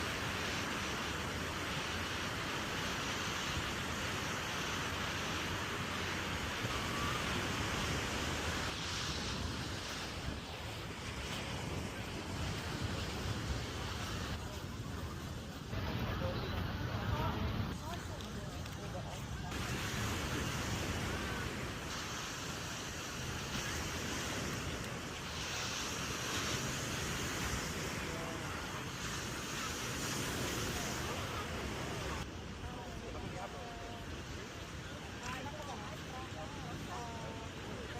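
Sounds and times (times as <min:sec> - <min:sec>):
ocean surf: 0:00.0 - 0:37.9
wind on microphone: 0:00.0 - 0:37.9.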